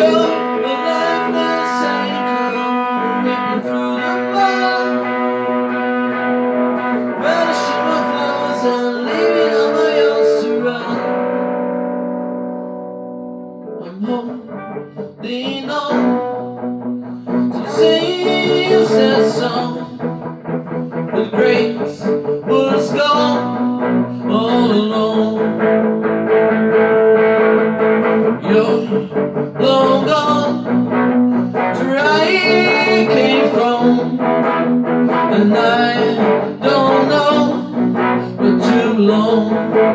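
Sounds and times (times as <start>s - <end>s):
guitar playing: 0.0s - 39.9s.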